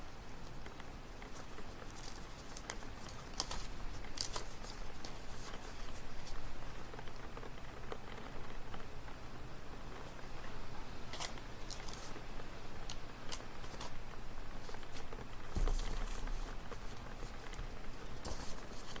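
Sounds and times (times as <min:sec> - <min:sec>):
room hum: 0:00.0 - 0:19.0
small clicks and rustles: 0:00.0 - 0:19.0.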